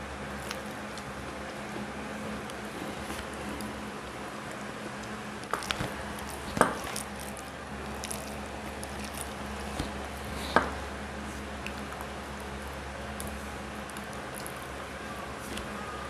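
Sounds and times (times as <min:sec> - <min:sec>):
fingers squishing food: 0:00.0 - 0:16.0.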